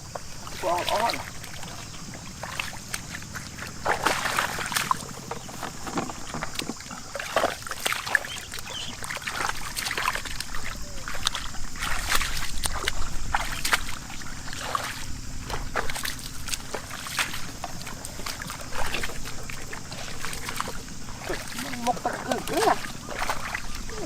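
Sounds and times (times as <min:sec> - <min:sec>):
floodwater splashing: 0:00.0 - 0:24.0.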